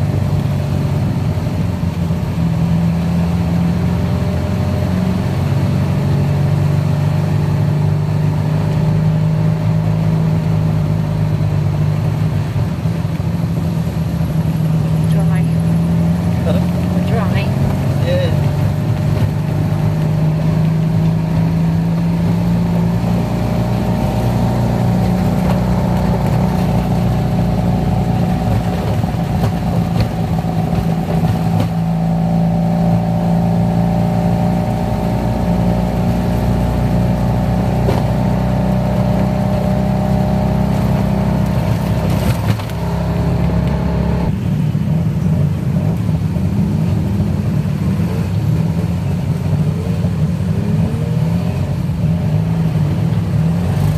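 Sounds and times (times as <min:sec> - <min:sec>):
tuk-tuk engine running: 0:00.0 - 0:53.9.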